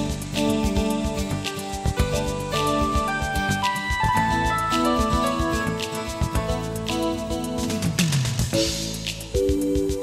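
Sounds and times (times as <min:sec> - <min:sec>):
instrumental music with beat: 0:00.0 - 0:10.0.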